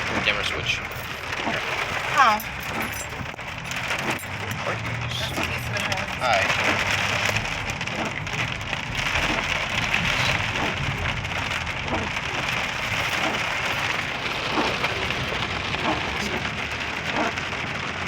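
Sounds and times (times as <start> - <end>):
heavy rain: 0.0 - 18.0
raindrops striking close by: 0.0 - 18.0.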